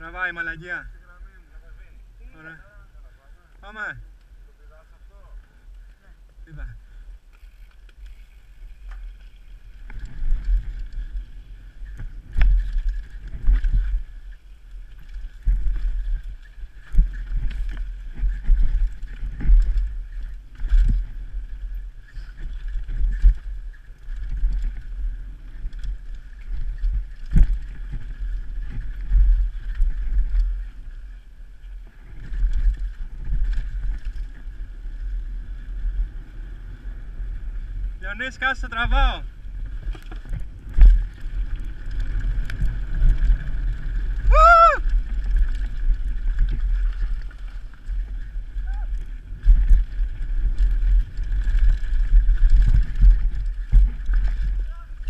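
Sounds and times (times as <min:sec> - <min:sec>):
bike knocking and rattling: 0:05.9 - 0:36.4, 0:37.1 - 0:55.0
wind buffeting microphone: 0:07.6 - 0:55.0.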